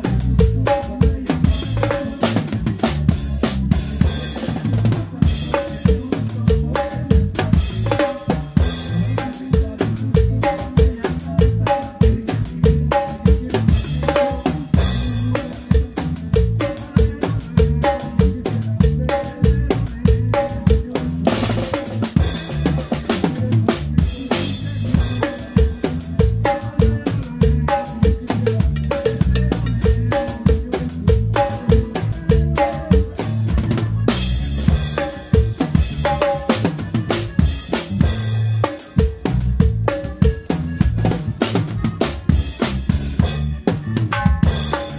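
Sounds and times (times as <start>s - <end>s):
band playing: 0.0s - 44.9s
drum kit dance beat: 0.0s - 44.9s.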